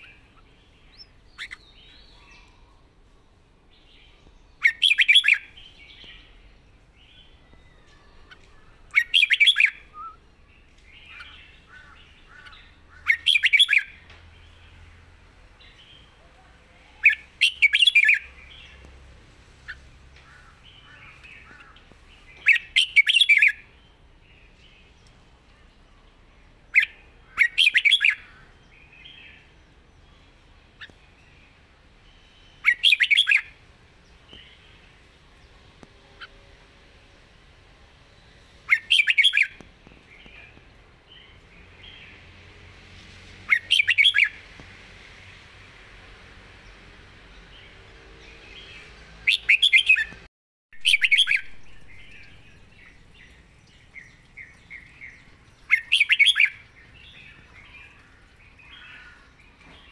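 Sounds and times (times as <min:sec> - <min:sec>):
bird singing bright phrases: 0:00.0 - 0:59.9.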